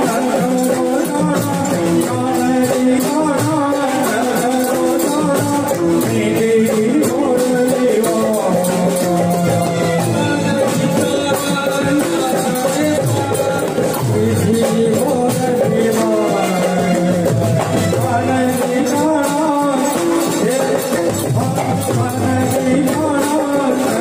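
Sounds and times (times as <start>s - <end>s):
drums and hand drum beat: 0.0s - 24.0s
shaker-like percussion: 0.0s - 24.0s.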